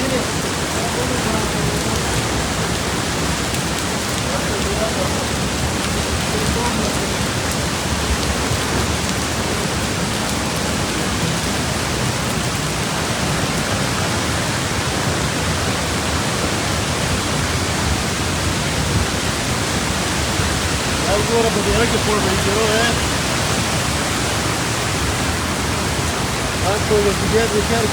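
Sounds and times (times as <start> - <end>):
heavy rain and floodwater rushing: 0.0 - 27.9.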